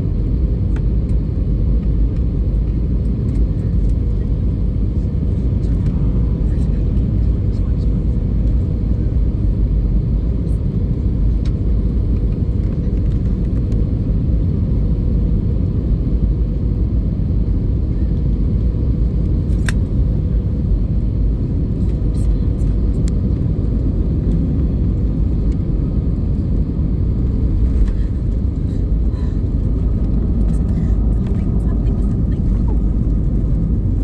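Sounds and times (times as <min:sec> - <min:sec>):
aircraft engine rumble in cabin: 0:00.0 - 0:34.0.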